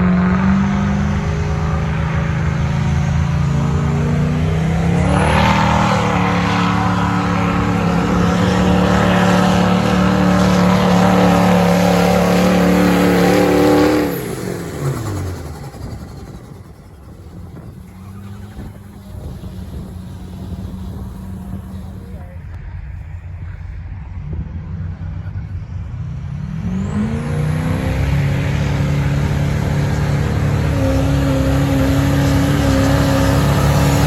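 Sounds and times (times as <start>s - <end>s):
diesel truck engine revving under load: 0.0s - 22.5s, 24.3s - 34.0s.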